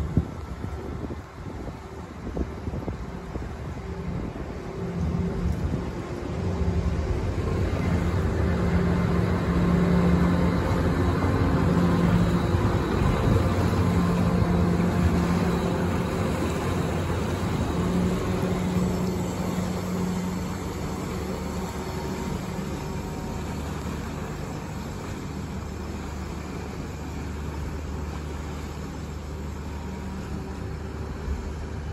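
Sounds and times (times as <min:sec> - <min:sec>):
churning water: 0:00.0 - 0:31.9
ferry engines droning: 0:00.0 - 0:31.9.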